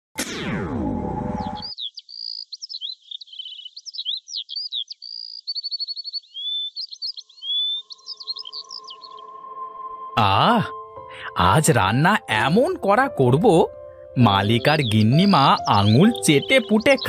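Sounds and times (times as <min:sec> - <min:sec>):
songbirds chirping: 0:01.4 - 0:17.0.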